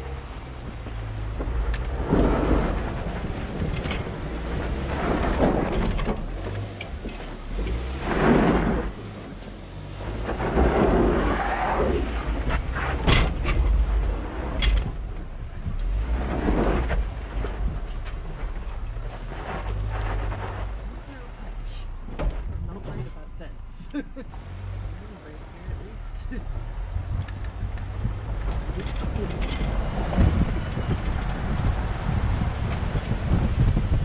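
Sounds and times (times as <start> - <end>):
knocks and rattles: 0.0 - 11.4, 12.2 - 21.1, 21.9 - 23.1, 25.7 - 34.0
tyres on gravel: 0.0 - 33.2
pickup engine rumble: 0.0 - 34.0.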